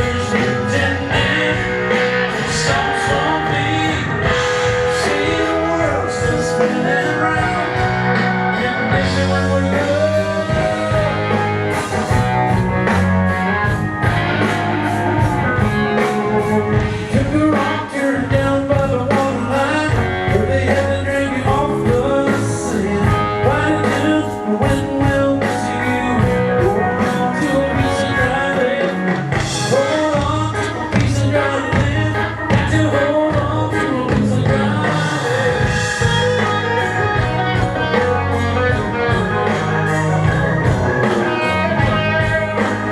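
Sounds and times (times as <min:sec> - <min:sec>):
live blues-rock band with singing: 0:00.0 - 0:42.9.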